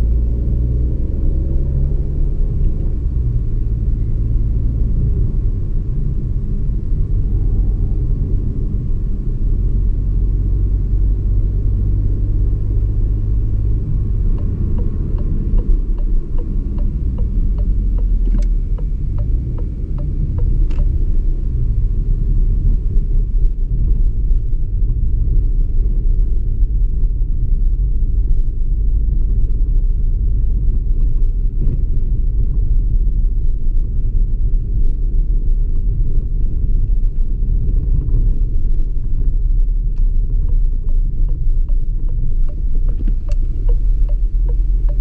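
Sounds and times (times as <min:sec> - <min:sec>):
engine and tyre rumble: 0:00.0 - 0:45.0
faint road surface ticks: 0:02.4 - 0:45.0.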